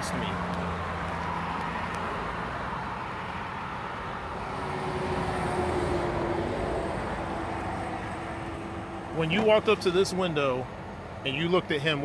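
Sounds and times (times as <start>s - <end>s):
vehicles passing on road: 0.0s - 12.0s.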